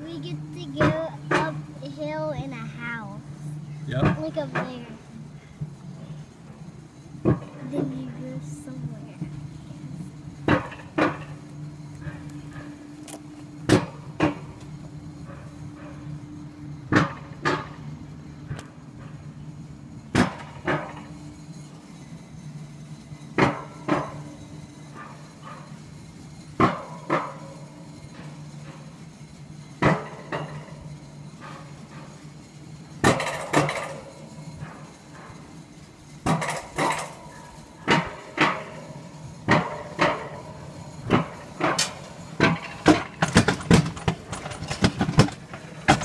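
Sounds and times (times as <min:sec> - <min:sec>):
steady low hum: 0:00.0 - 0:46.0
wheels clacking over rail joints: 0:00.0 - 0:46.0.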